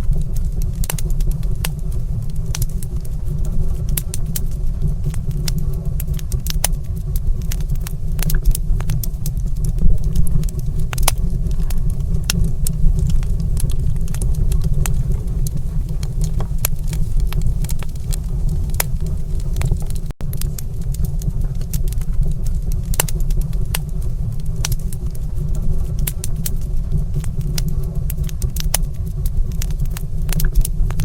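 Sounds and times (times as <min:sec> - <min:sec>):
sharp pops from fire: 0:00.0 - 0:31.0
wood fire crackling: 0:00.0 - 0:31.0.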